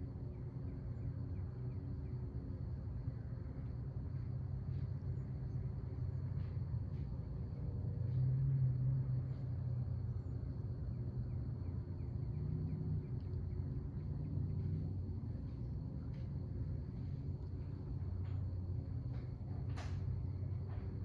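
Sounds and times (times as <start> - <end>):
high insect whine: 0.0 - 21.0
steady low rumble: 0.0 - 21.0.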